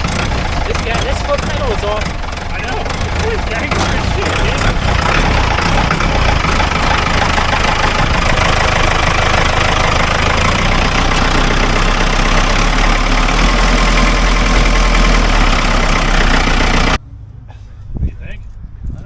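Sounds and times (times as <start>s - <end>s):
tractor diesel engine clattering: 0.0s - 17.0s.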